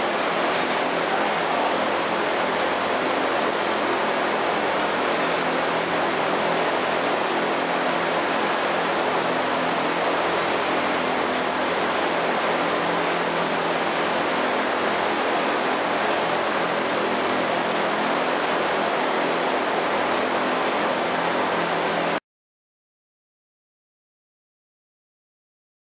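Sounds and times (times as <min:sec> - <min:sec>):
machine hiss with low hum: 0:00.0 - 0:22.2.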